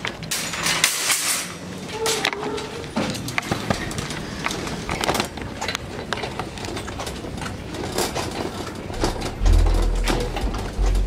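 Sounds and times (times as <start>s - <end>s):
shopping cart rattling and clattering: 0.0s - 9.5s.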